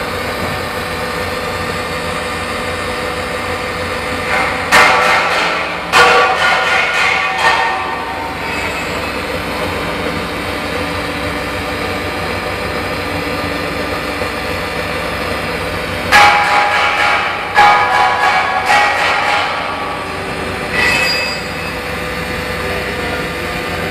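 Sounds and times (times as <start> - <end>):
loud mechanical clattering: 0.0 - 23.9
welding machine humming: 0.0 - 23.9.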